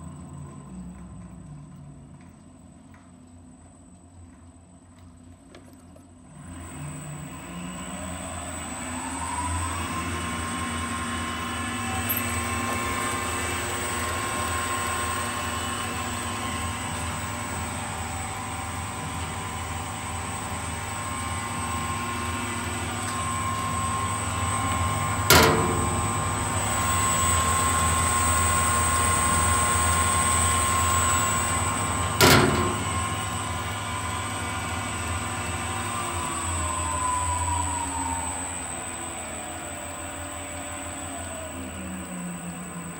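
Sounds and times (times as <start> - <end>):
wood lathe motor whine: 6.3 - 42.9.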